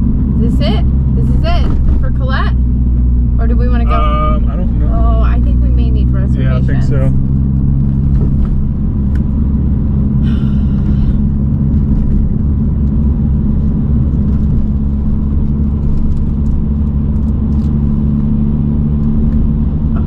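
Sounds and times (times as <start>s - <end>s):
car road noise drone: 0.0s - 20.0s.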